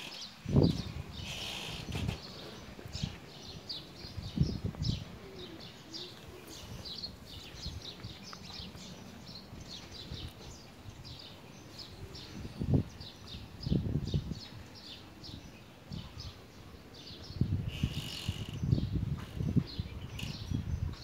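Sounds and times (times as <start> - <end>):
faint outdoor background noise: 0.0 - 21.0
small birds chirping: 0.0 - 21.0.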